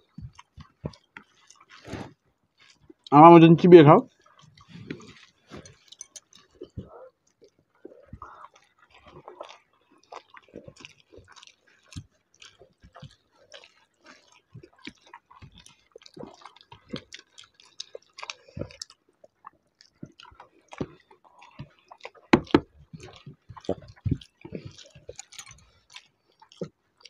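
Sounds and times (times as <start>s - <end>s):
people chewing food: 0.0s - 27.0s
wet mouth clicks and smacks: 4.1s - 26.8s.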